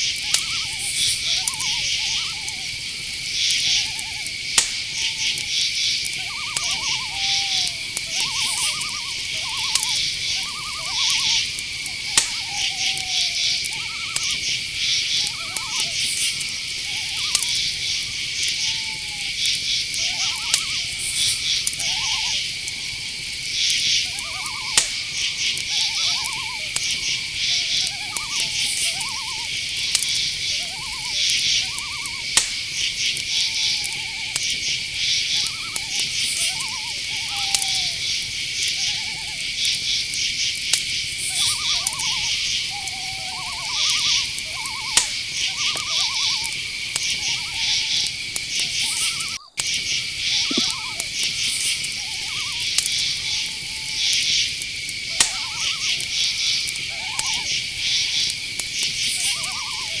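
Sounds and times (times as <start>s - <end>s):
crickets chirping: 0.0s - 60.0s
owl hooting: 0.0s - 60.0s.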